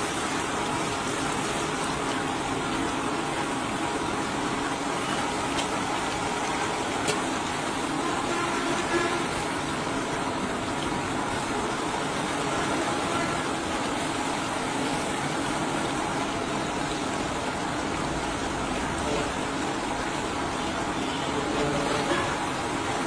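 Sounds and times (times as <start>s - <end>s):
curry boiling and bubbling: 0.0s - 23.0s.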